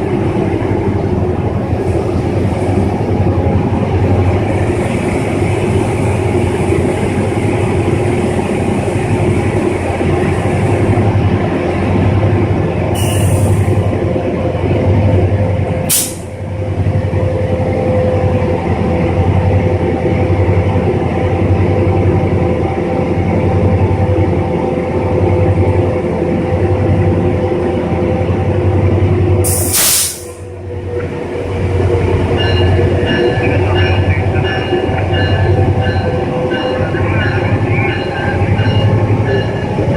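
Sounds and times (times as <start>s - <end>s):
train drone: 0.0s - 39.9s.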